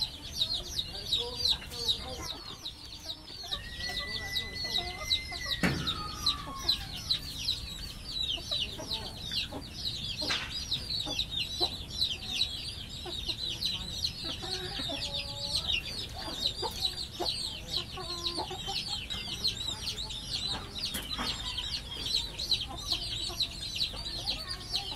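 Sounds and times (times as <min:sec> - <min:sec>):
chickens clucking softly: 0:00.0 - 0:24.9
rapid high-pitched chirping: 0:00.0 - 0:24.9.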